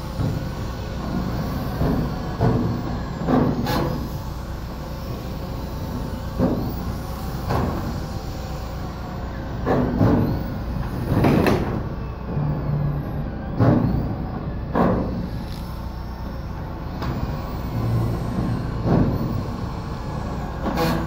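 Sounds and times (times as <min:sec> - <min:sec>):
steady engine hum: 0:00.0 - 0:21.0.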